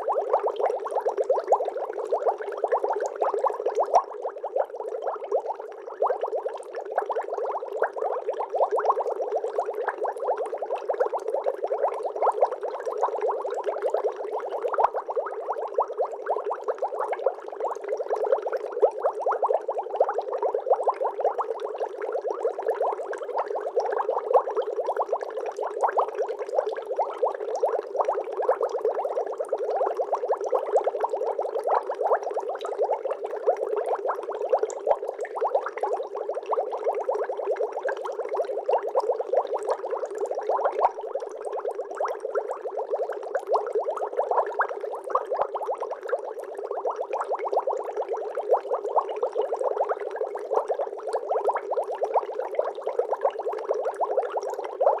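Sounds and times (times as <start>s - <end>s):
aquarium air bubbling: 0.0s - 55.0s.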